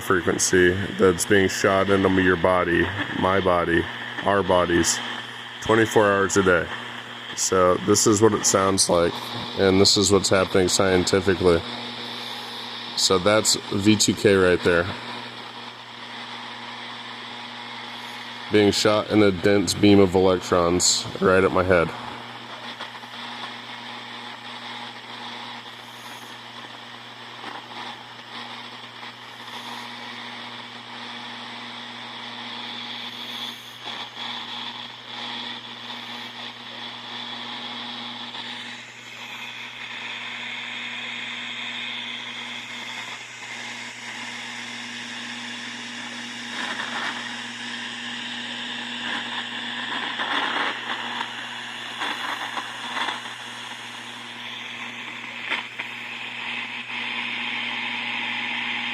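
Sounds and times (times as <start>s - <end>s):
electrical hum: 0.0s - 58.9s
static hiss: 0.0s - 58.9s.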